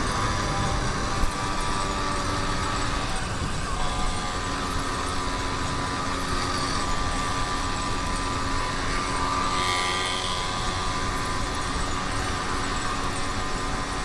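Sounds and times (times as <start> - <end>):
two-stroke bicycle engine running: 0.0 - 14.0.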